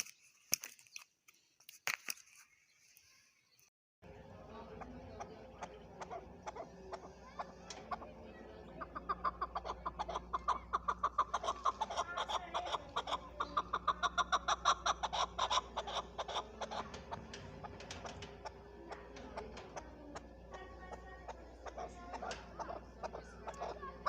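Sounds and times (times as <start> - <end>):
partridge clucking calls: 4.2 - 24.0.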